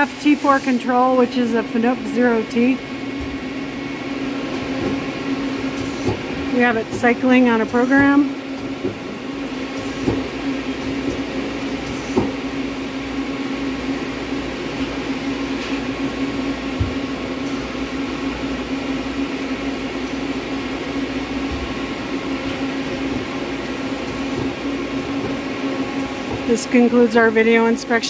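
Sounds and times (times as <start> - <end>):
machine hum with held tone: 0.0 - 28.0.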